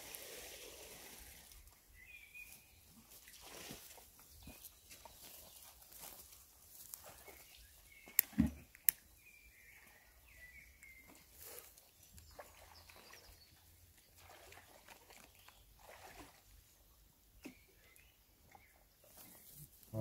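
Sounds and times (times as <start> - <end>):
small birds chirping: 1.6 - 3.3, 4.2 - 15.9, 16.8 - 20.0.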